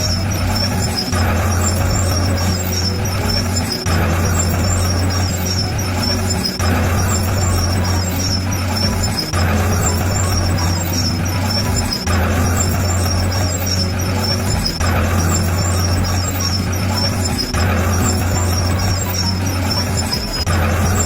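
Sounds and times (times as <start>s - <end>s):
bulldozer diesel engine droning: 0.0s - 21.0s.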